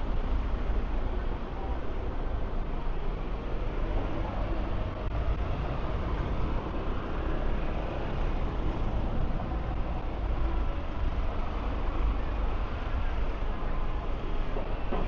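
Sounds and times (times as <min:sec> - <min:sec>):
rumble of street traffic: 0:00.0 - 0:15.0.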